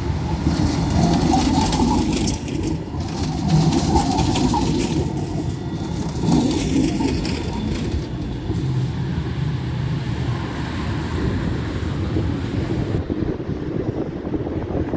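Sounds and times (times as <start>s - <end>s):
tram wheels rumbling on rails: 0.0s - 14.9s.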